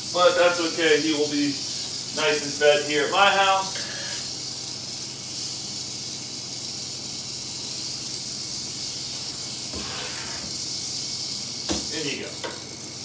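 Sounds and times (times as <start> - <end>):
rattlesnake rattling: 0.0 - 13.0.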